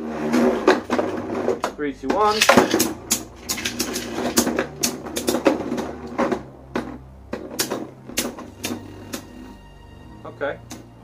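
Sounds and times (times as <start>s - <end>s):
spinning tops whirring: 0.0s - 9.6s
spinning tops clacking: 0.4s - 9.3s.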